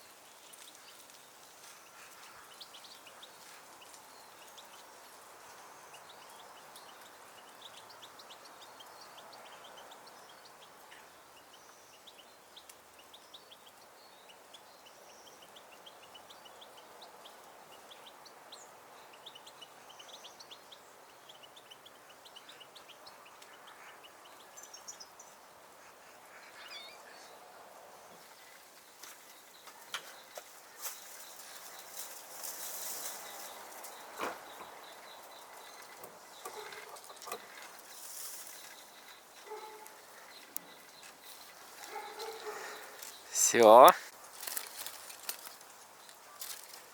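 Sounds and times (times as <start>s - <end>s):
small songbirds chirping: 0.0s - 46.9s.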